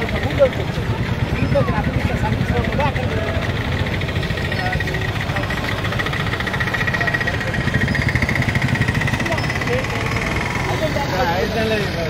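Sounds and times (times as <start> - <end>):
engine low rumble: 0.0 - 12.0.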